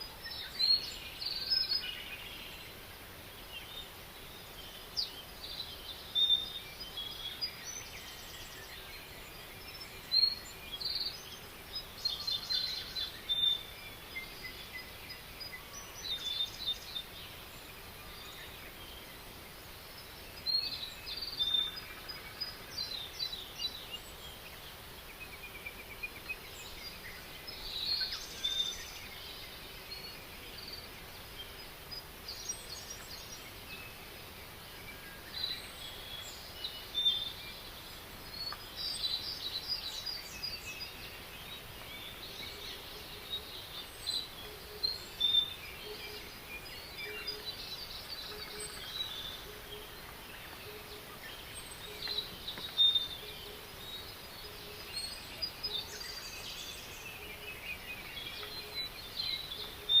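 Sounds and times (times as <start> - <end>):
small birds chirping and trilling: 0.0 - 60.0
steady background hiss: 0.0 - 60.0.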